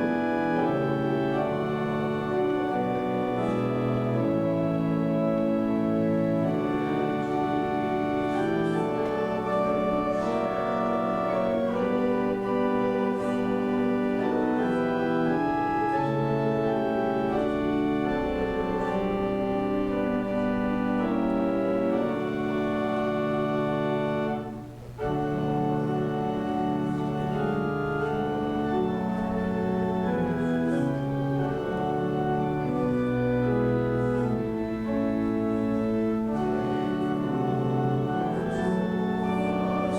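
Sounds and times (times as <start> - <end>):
church organ playing a hymn: 0.0 - 39.9.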